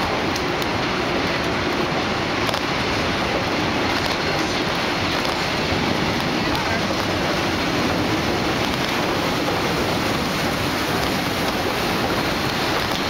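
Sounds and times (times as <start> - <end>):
moving train rushing noise: 0.0 - 13.0.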